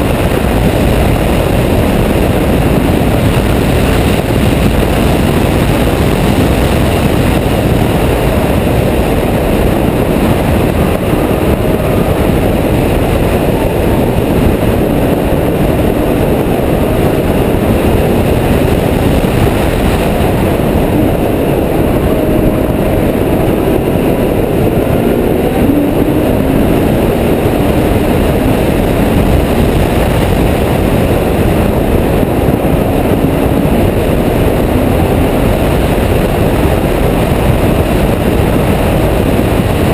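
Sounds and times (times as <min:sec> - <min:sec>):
car engine: 0:00.0 - 0:39.9
wind rushing on microphone: 0:00.0 - 0:39.9.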